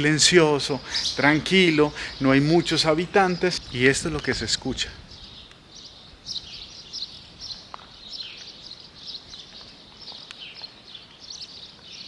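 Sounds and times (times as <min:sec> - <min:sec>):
faint background hiss: 0:00.0 - 0:12.0
small birds chirping: 0:00.0 - 0:12.0.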